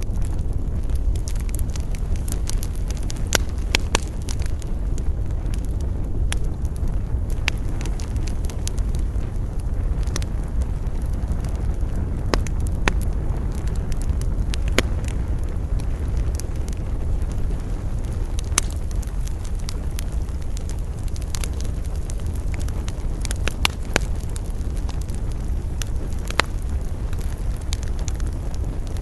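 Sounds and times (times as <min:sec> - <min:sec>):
campfire crackling and popping: 0:00.0 - 0:29.0
wind rumble: 0:00.0 - 0:29.0.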